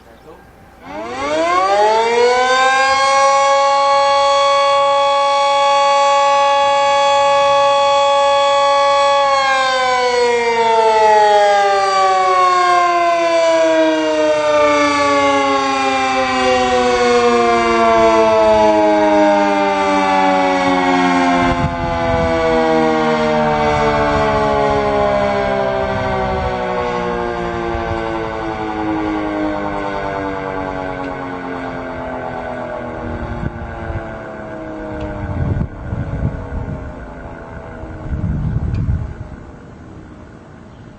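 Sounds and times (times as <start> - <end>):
siren steady tone winding down: 0.0 - 40.6.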